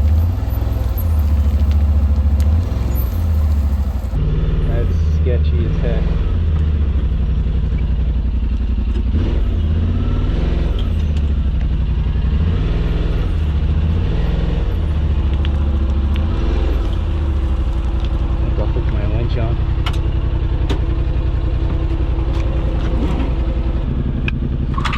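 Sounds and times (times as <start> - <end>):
utility vehicle engine running: 0.0 - 24.9.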